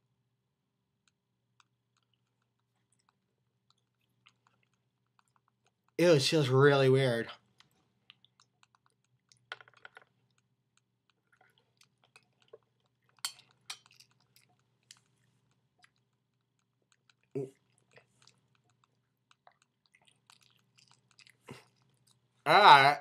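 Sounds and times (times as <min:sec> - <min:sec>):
wet mouth chewing clicks: 0:01.0 - 0:06.0, 0:07.4 - 0:22.3.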